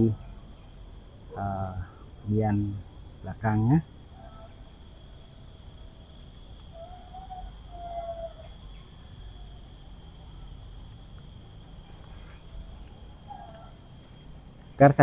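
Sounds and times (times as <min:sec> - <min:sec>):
crickets chirping chorus: 0:00.0 - 0:15.0
faint wavering tones: 0:00.0 - 0:15.0.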